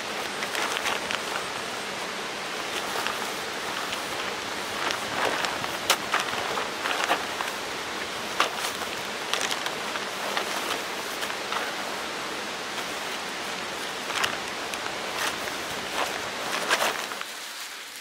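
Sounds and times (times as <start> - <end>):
background hiss: 0.0 - 18.0
foil blanket crinkling: 0.0 - 18.0.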